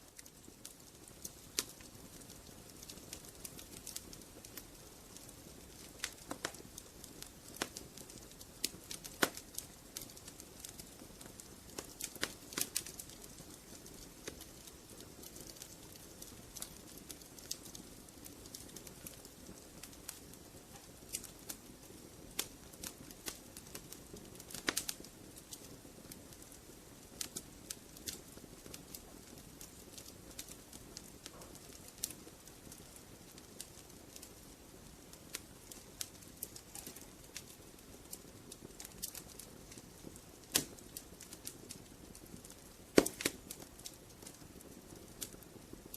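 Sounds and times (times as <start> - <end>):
wood fire crackling and popping: 0.0 - 45.9
hiss of flame: 0.1 - 45.9.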